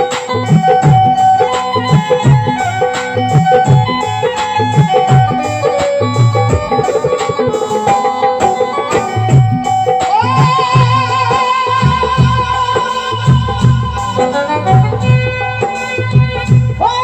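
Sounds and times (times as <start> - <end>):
tabla rhythm: 0.0 - 17.0.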